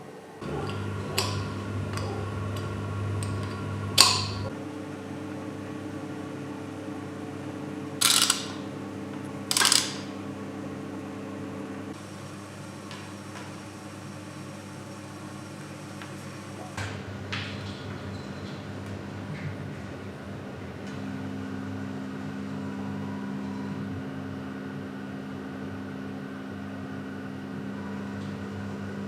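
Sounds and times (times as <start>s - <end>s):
machine hum: 0.2s - 29.0s.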